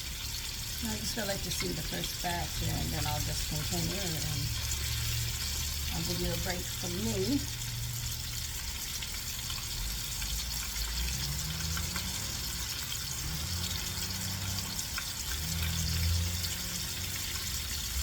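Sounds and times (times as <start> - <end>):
food sizzling in hot oil: 0.0 - 18.0
oil crackling: 0.0 - 18.0.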